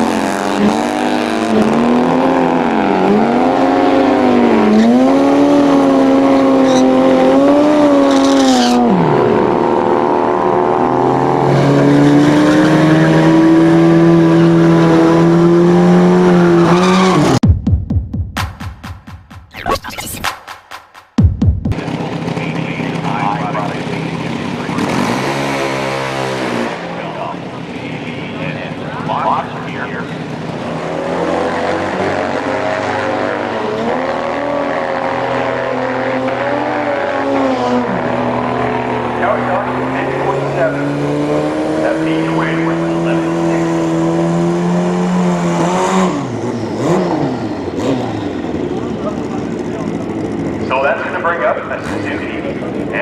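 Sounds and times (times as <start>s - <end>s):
motorcycle engine revving high: 0.0s - 17.6s, 21.2s - 53.0s.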